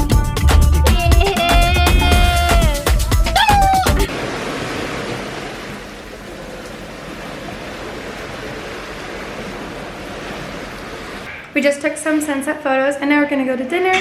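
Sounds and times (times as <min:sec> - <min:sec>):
ocean surf washing onto beach: 0:01.0 - 0:12.4.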